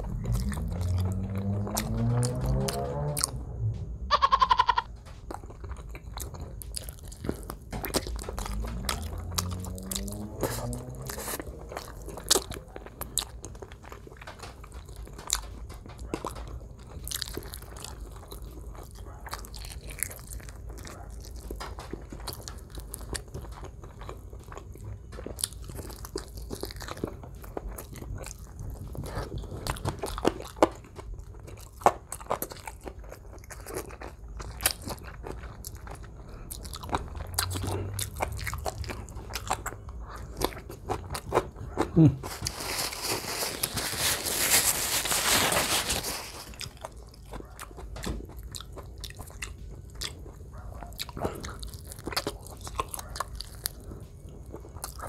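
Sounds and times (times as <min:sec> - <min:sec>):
person chewing and biting food: 0:00.0 - 0:03.8, 0:04.4 - 0:55.0.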